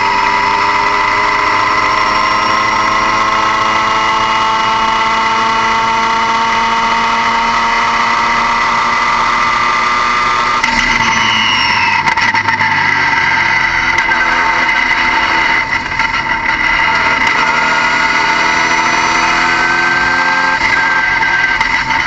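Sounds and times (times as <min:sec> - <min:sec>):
car engine running: 0:00.0 - 0:22.0
high whine: 0:00.0 - 0:22.0.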